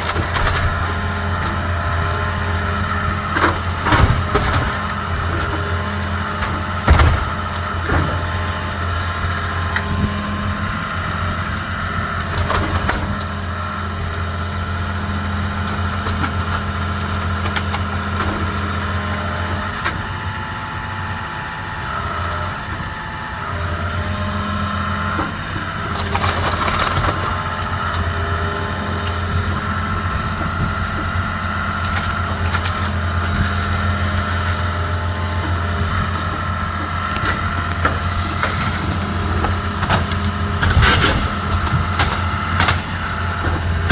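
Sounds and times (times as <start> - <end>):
diesel engine with high whine: 0.0 - 43.9.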